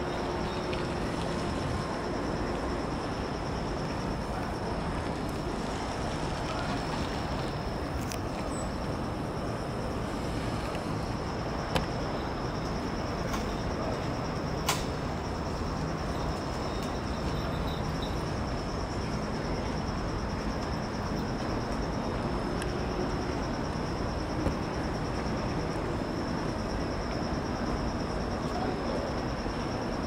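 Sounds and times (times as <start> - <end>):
distant traffic rumble: 0.0 - 30.0
insects trilling: 0.0 - 30.0.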